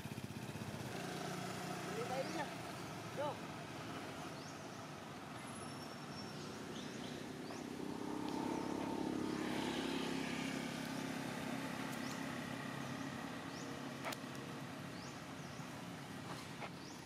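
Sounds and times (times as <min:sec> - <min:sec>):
vehicle engine passing: 0:00.5 - 0:17.0.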